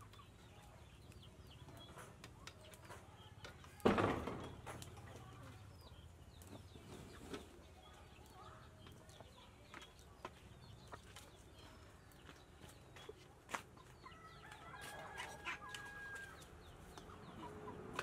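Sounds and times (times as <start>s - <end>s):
chickens clucking: 0.0s - 3.8s, 4.4s - 18.0s
birds chirping: 0.0s - 18.0s.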